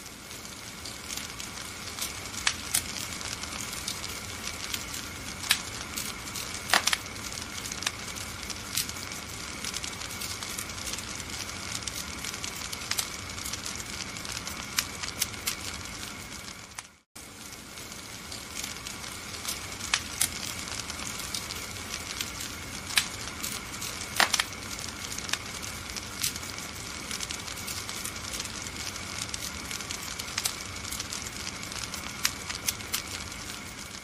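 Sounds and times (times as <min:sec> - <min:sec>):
wood fire crackling: 0:00.0 - 0:34.0
sharp pops and snaps: 0:00.8 - 0:17.0, 0:18.3 - 0:34.0.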